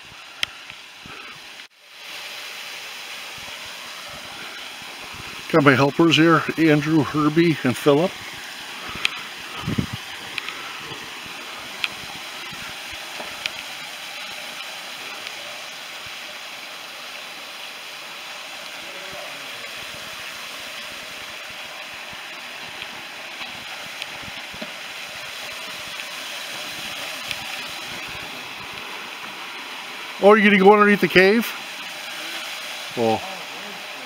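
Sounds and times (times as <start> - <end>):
small waterfall hissing: 0.0 - 34.0.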